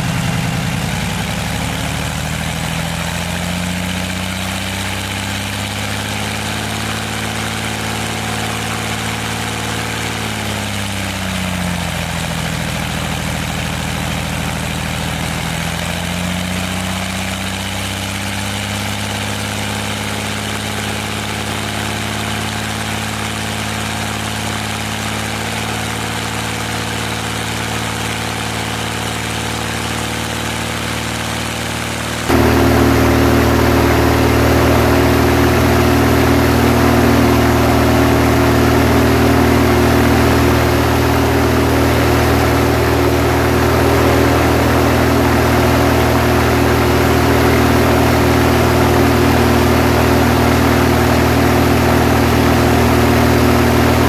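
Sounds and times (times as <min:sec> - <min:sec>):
aircraft engine running: 0:00.0 - 0:54.0.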